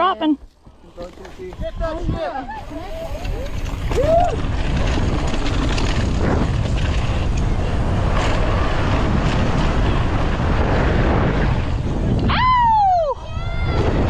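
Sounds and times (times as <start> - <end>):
tyres crunching on loose dirt: 0.0 - 12.3
wind buffeting microphone: 0.2 - 14.0.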